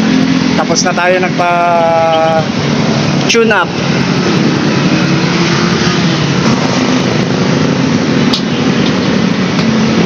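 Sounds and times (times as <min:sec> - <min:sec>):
scooter engine running: 0:00.0 - 0:10.0.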